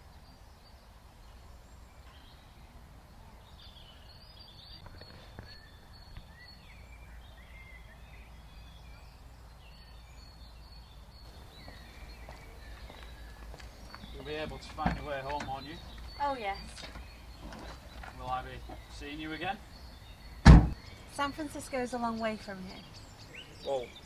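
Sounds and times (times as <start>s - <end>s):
small birds chirping: 3.4s - 24.0s.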